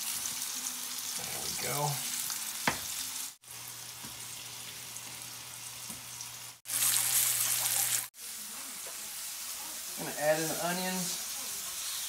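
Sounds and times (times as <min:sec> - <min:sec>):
liver sizzling in oil: 0:00.0 - 0:12.0.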